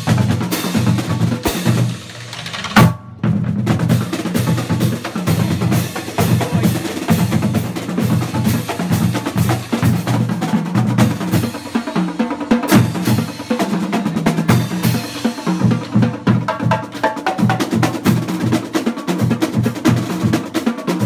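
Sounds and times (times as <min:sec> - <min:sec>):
snare drums: 0:00.0 - 0:21.0
tenor drums: 0:00.0 - 0:21.0.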